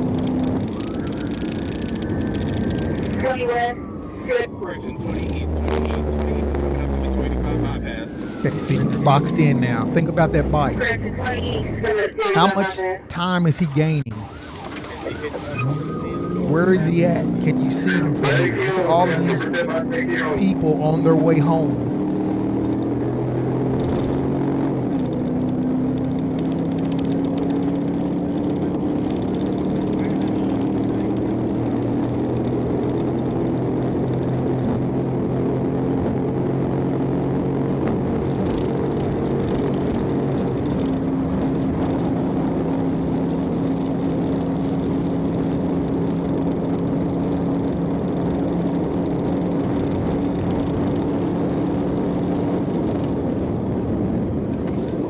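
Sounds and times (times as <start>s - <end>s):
car engine running: 0.0s - 55.0s
road and tyre noise: 0.0s - 55.0s.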